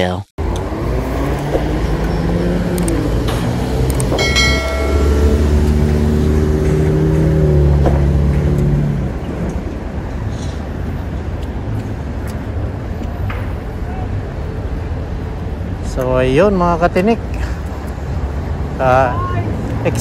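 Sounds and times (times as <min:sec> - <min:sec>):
car engines in traffic: 0:00.4 - 0:20.0.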